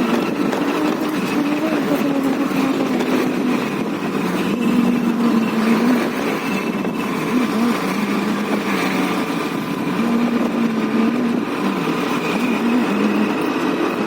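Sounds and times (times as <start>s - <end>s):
scooter engine running: 0.0s - 14.0s
wind and road noise: 0.0s - 14.0s.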